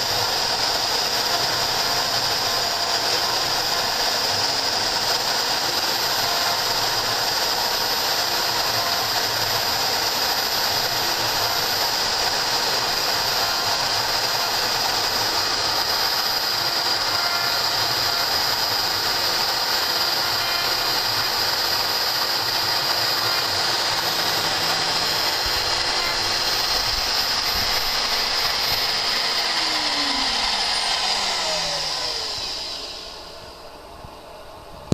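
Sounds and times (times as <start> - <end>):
spindle motor running: 0.0 - 34.9.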